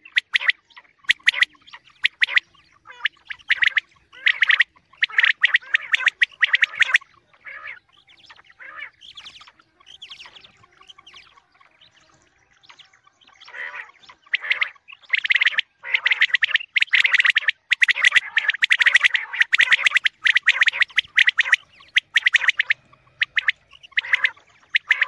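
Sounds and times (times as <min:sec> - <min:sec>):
birds calling in pulsed notes: 0:00.0 - 0:25.0.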